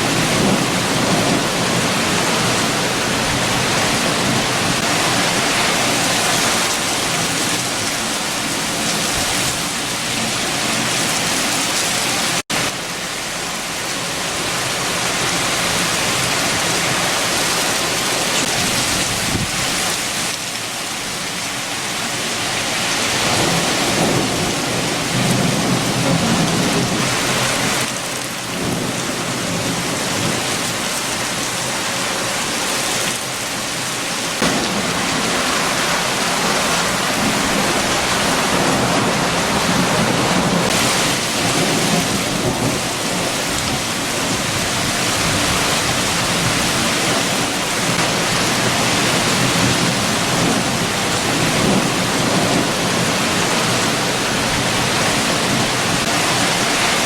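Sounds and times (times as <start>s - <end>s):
strong wind gusts: 0.0s - 12.7s, 14.2s - 20.4s, 22.0s - 57.0s
heavy rain: 0.0s - 57.0s.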